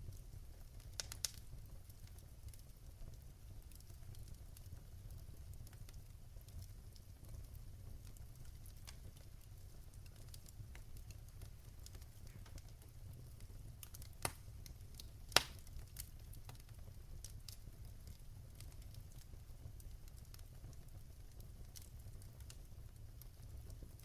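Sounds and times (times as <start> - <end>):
wood fire crackling: 0.0 - 24.0
fire pops: 0.1 - 2.7, 6.6 - 24.0.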